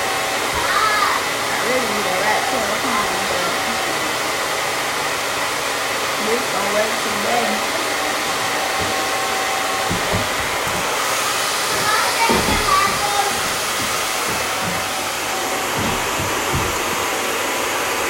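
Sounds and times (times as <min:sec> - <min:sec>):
blow dryer running: 0:00.0 - 0:18.0.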